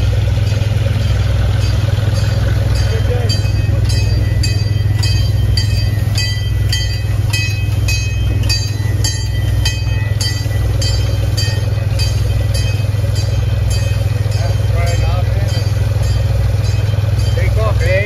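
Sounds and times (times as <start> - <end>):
locomotive bell ringing: 0.0 - 18.0
train rumbling: 0.0 - 18.0.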